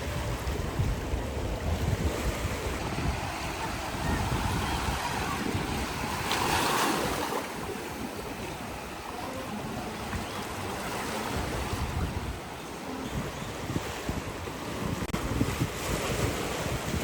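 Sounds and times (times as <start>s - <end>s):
surf washing onto shore: 0.0s - 17.0s
wind buffeting microphone: 0.0s - 17.0s.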